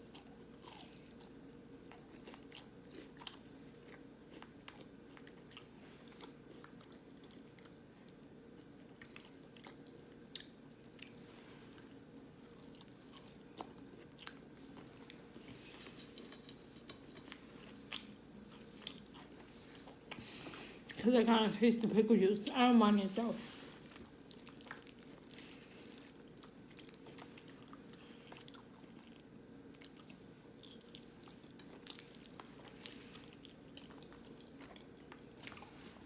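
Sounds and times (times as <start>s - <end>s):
person chewing crunchy food: 0.0s - 21.0s, 23.6s - 36.0s
low room hum: 0.0s - 36.0s.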